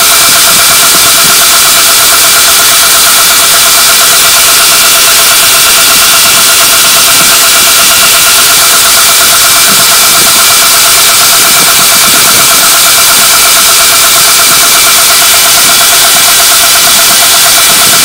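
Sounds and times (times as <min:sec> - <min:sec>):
drill bit grinding on belt: 0:00.0 - 0:18.0.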